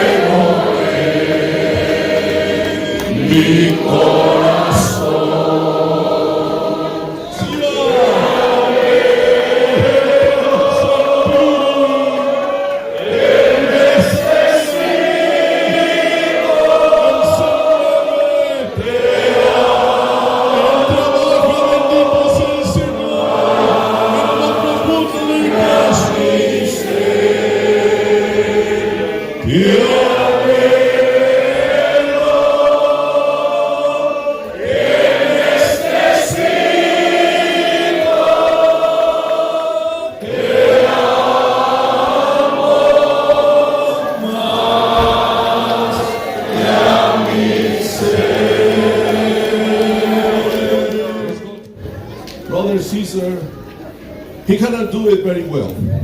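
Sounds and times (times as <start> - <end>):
congregation singing: 0.0 - 53.5.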